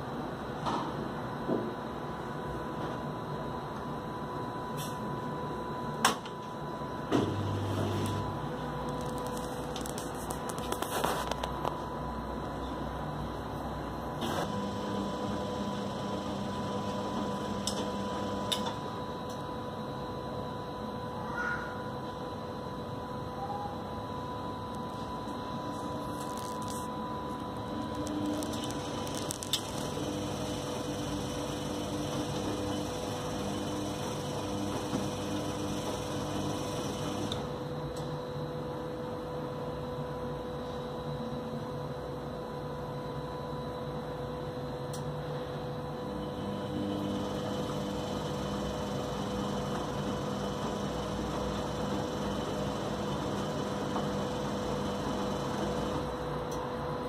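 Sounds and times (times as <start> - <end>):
washing machine running: 0.0 - 21.2, 21.8 - 40.3, 43.9 - 57.0.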